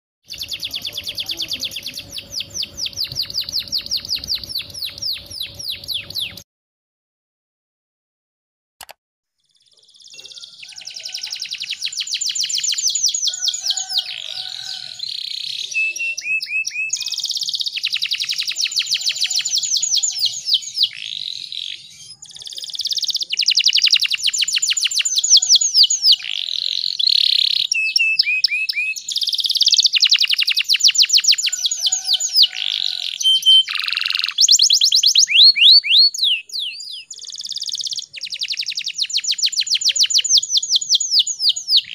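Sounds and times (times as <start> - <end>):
canary singing trills: 0.3 - 6.4, 9.4 - 41.9.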